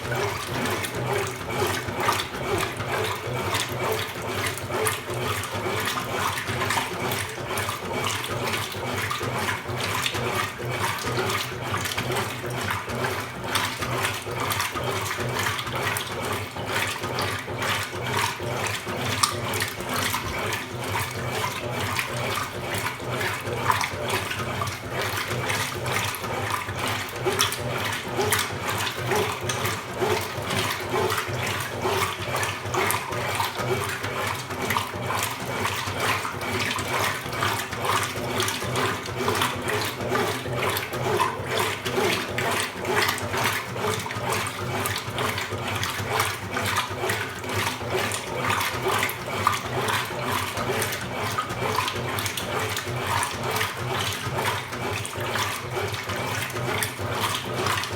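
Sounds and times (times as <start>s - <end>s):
washing machine motor hum: 0.0s - 57.9s
water splashing and churning: 0.0s - 57.9s.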